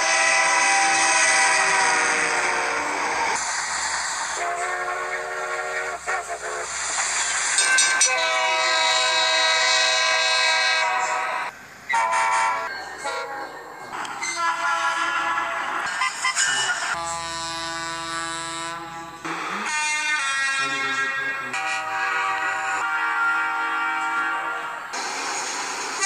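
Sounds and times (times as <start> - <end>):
train horn blasts: 0.0 - 3.4, 4.4 - 6.7, 7.6 - 16.3, 16.9 - 25.0.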